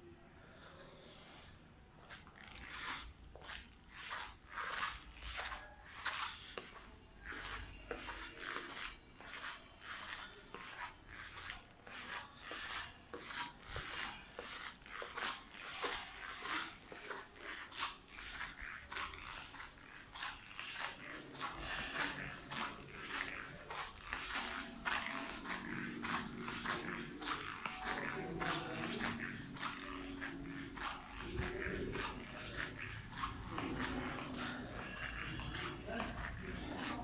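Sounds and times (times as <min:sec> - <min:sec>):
footsteps on marble floor: 0:00.5 - 0:37.0.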